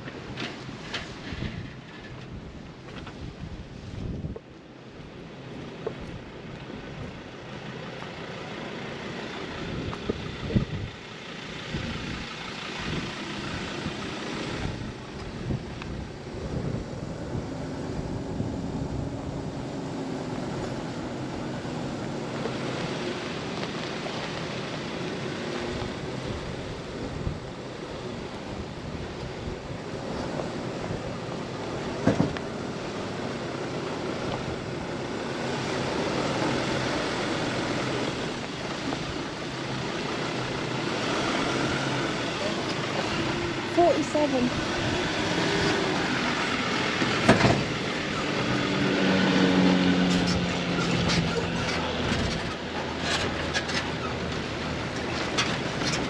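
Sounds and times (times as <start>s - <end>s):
wind noise: 0.0s - 5.2s, 9.4s - 56.0s
vehicle running: 0.0s - 56.0s.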